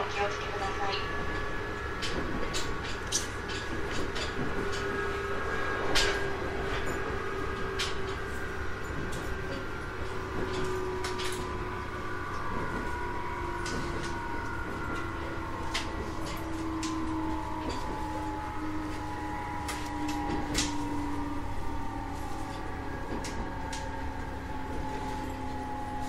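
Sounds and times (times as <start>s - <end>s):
train interior rumble: 0.0s - 26.0s
wavering motor hum: 0.0s - 26.0s.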